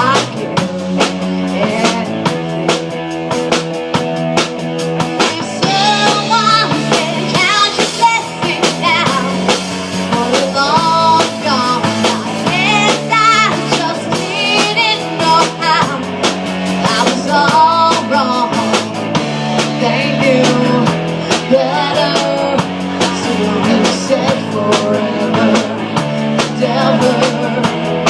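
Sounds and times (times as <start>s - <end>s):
rock band playing live: 0.0s - 28.0s.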